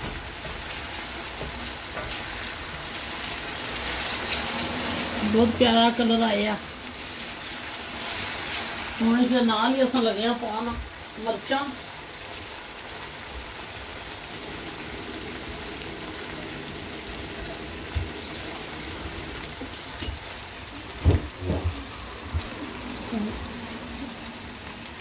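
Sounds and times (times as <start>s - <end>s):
onions and tomatoes sizzling in oil: 0.0s - 25.0s.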